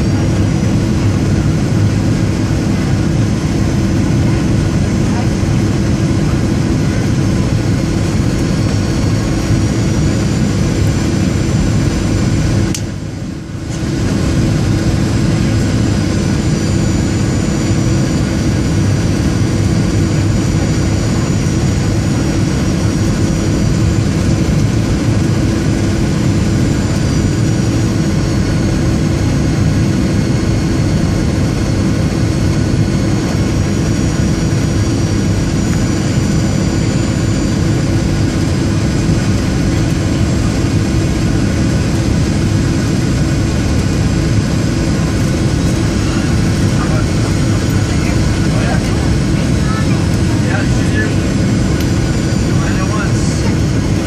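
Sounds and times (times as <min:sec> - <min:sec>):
high steady whine: 0:00.0 - 0:54.0
jet engines and airflow drone: 0:00.0 - 0:54.0.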